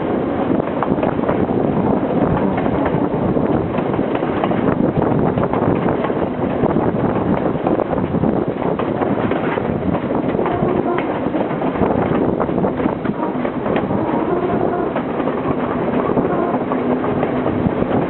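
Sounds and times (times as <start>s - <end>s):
train wheels rattling and clattering: 0.0s - 18.0s
wind noise on microphone: 0.0s - 18.0s.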